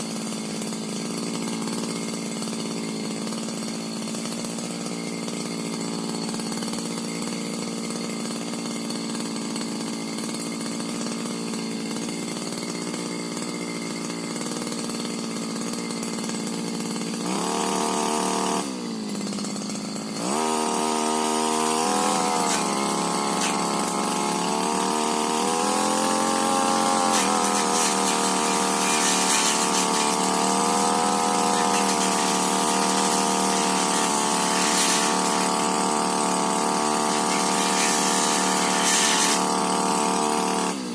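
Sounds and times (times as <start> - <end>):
brush cutter engine revving: 0.0 - 40.9.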